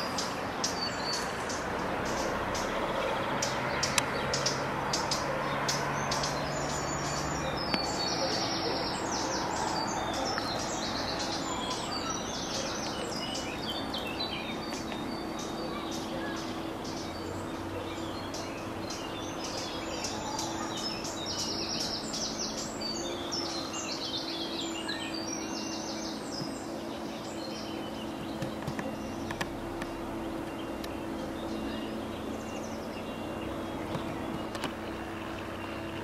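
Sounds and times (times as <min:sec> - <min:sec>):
songbirds singing: 0:00.0 - 0:36.0
steady low hum: 0:00.0 - 0:36.0.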